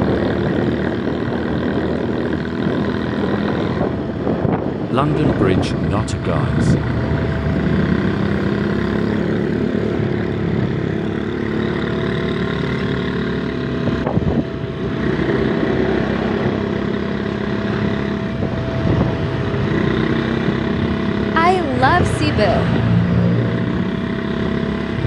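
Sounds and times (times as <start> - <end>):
small motorcycle engine running: 0.0 - 25.0
wind and road noise: 0.0 - 25.0.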